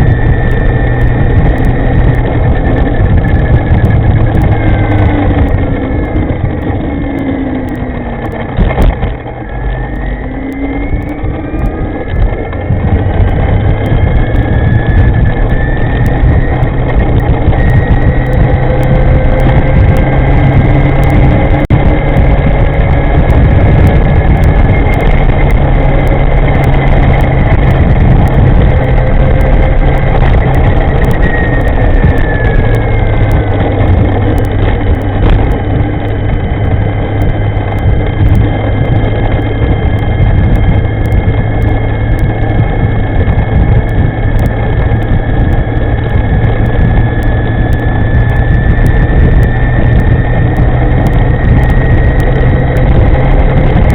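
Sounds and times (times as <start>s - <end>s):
electric scooter low rumble: 0.0s - 53.9s
high whining tones: 0.0s - 53.9s.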